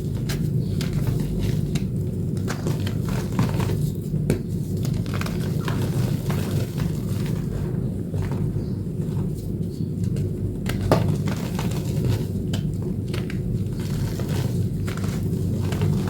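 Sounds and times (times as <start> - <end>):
chalk crunching and crackling: 0.0 - 16.0
steady low hum: 0.0 - 16.0.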